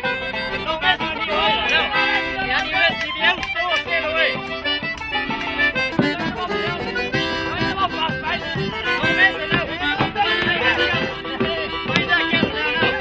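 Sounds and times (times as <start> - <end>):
folk tune on banjo: 0.0 - 13.0
held notes from second instrument: 0.0 - 13.0.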